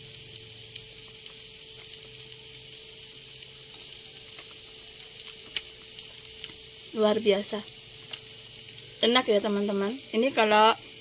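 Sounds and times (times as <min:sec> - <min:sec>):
faint steady hum: 0:00.0 - 0:11.0
food sizzling in a pan: 0:00.0 - 0:11.0.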